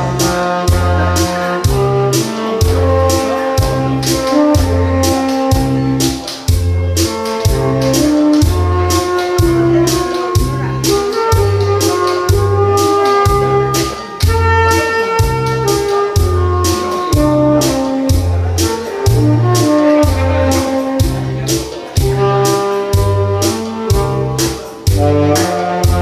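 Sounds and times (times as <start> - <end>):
bass and drum beat: 0.0 - 26.0
saxophone melody: 0.0 - 26.0.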